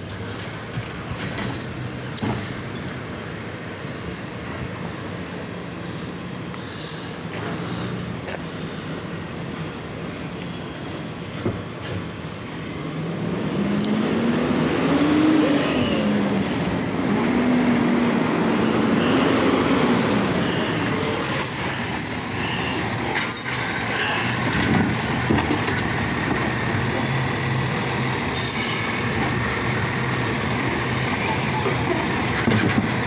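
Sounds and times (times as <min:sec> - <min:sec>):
truck engine: 0:00.0 - 0:33.0.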